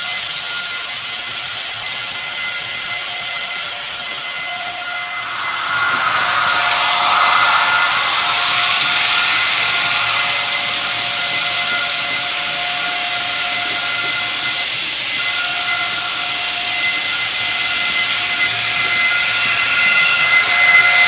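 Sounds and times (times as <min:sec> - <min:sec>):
model train wheels on track: 0:00.0 - 0:21.0
electric motor whine: 0:02.0 - 0:21.0.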